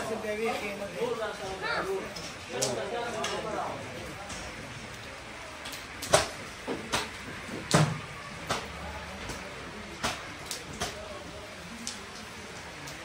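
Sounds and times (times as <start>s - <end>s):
faint background murmur: 0.0s - 13.0s.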